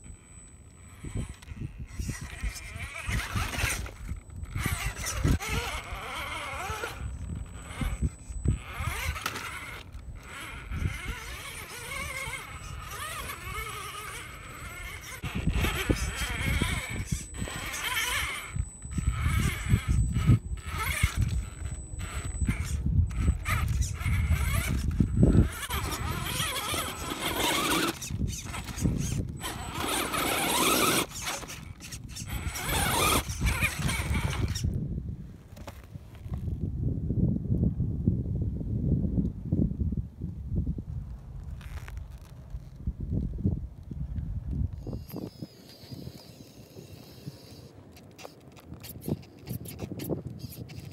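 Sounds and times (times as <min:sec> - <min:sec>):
rc car electric motor whining: 0:00.0 - 0:34.8, 0:44.8 - 0:50.9.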